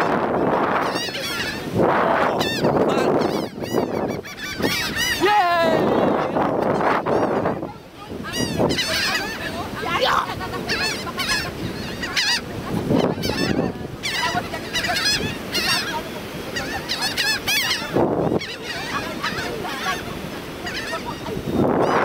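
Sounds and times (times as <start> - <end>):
gulls calling: 0.0 - 22.0.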